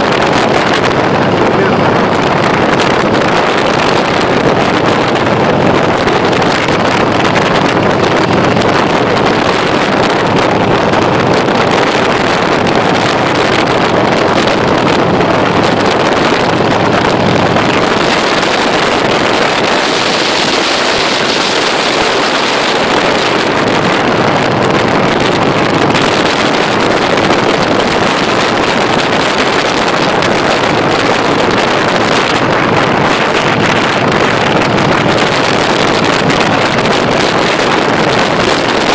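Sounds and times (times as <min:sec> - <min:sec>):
motorcycle engine cruising: 0:00.0 - 0:38.9
wind buffeting microphone: 0:00.0 - 0:38.9.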